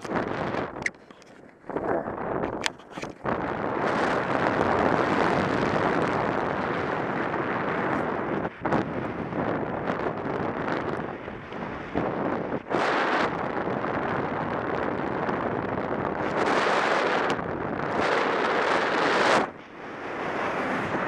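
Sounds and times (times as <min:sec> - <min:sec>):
wind roaring over microphone: 0:00.0 - 0:21.0.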